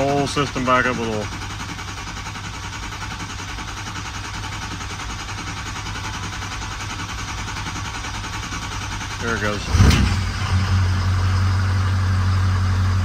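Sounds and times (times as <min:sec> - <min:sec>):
diesel engine cranking on starter: 0:00.0 - 0:13.0.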